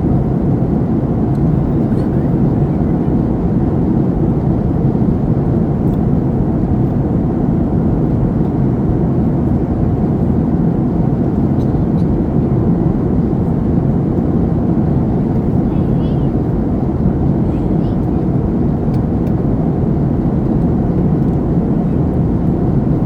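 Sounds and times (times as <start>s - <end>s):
airliner engines rumbling: 0.0s - 23.0s.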